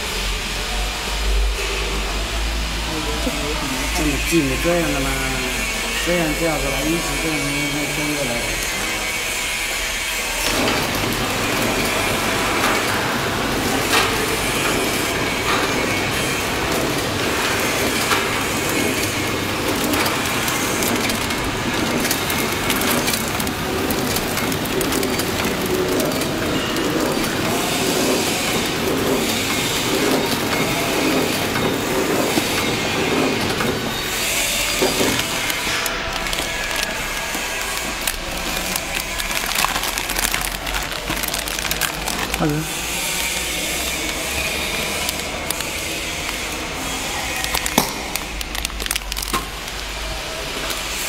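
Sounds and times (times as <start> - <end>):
packaging machine clatter: 3.1 - 51.0.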